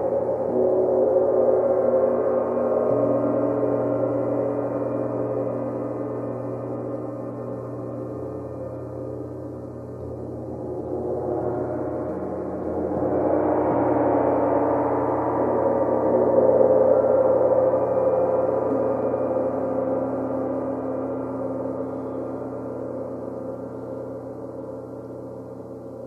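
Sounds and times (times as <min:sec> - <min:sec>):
flat gongs howling wash: 0:00.0 - 0:24.0.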